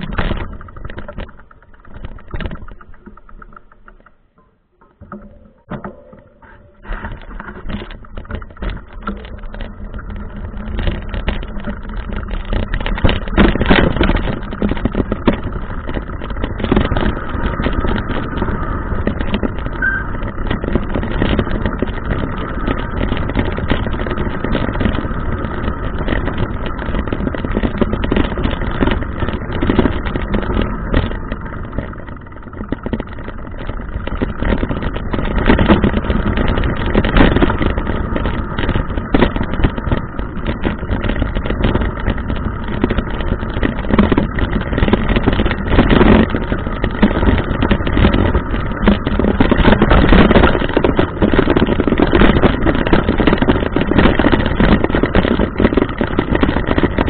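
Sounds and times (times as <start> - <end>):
mountain bike riding on dirt trail: 0.0 - 57.0
rattling and clatter: 0.0 - 57.0.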